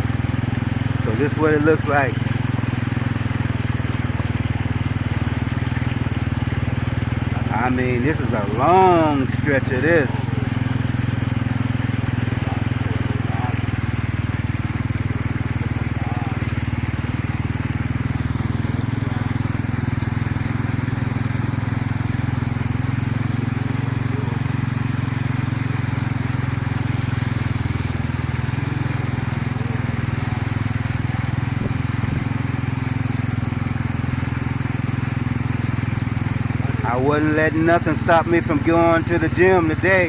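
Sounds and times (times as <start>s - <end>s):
small motorcycle engine running: 0.0s - 40.0s.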